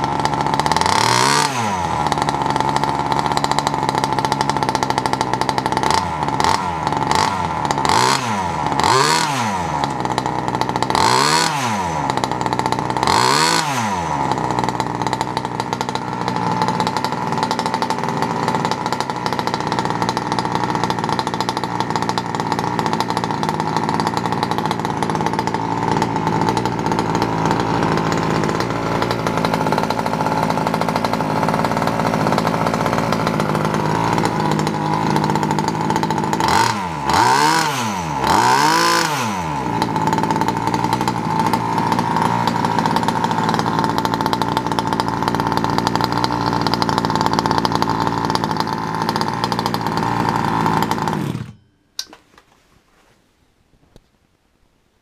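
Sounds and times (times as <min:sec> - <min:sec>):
small two-stroke engine revving: 0:00.0 - 0:52.2.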